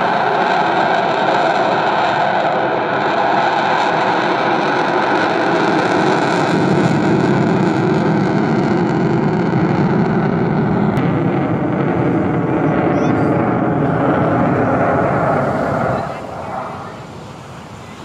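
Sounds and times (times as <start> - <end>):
fighter jet roaring past: 0.0 - 18.0.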